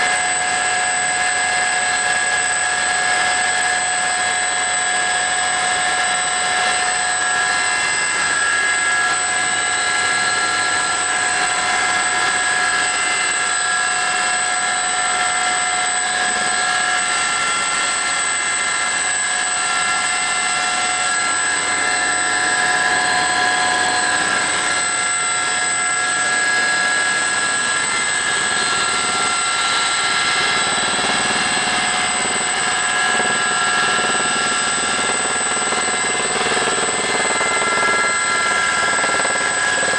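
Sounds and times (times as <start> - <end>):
helicopter high whine: 0.0 - 39.9.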